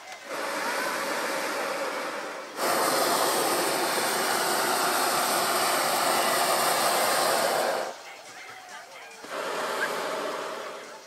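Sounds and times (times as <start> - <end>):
propane burner roaring hiss: 0.0 - 11.0.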